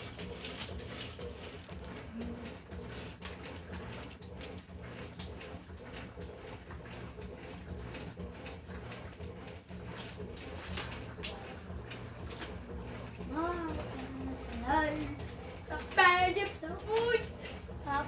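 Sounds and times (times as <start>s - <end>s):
washing machine agitating: 0.0s - 18.0s.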